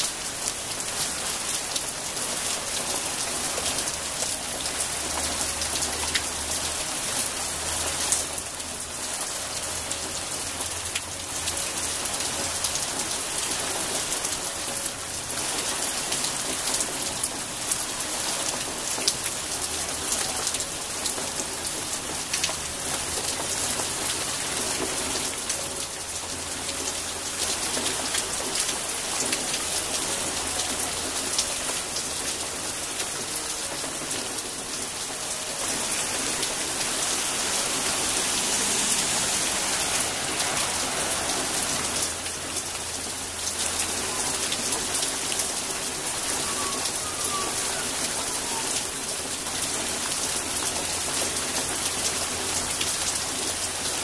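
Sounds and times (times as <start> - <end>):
rain falling on leafy plants: 0.0 - 54.0.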